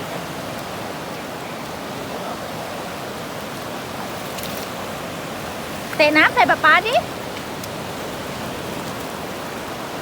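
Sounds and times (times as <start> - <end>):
shallow sea water rushing: 0.0 - 10.0.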